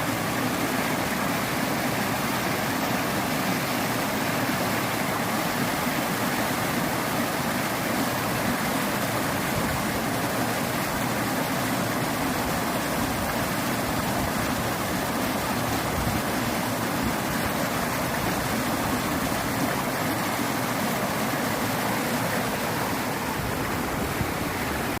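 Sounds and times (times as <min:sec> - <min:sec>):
small waterfalls rushing: 0:00.0 - 0:25.0.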